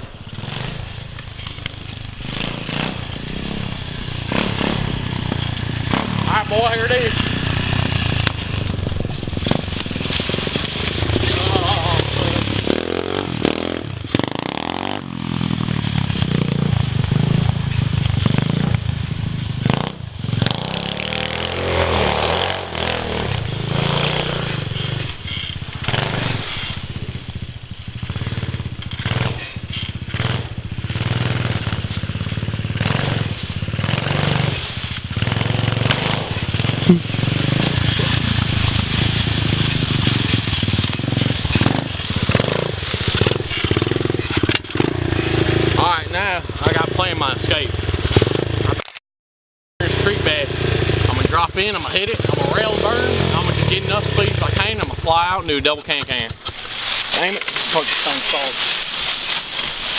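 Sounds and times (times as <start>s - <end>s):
dirt bike engine revving: 0.0s - 48.8s, 49.8s - 59.9s.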